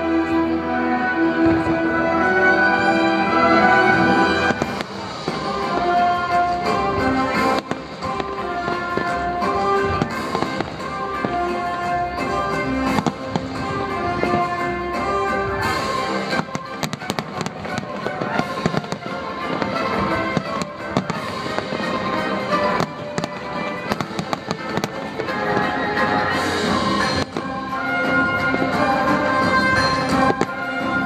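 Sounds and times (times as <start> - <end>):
fireworks bangs and crackles: 0.0 - 31.0
music playing: 0.0 - 31.0.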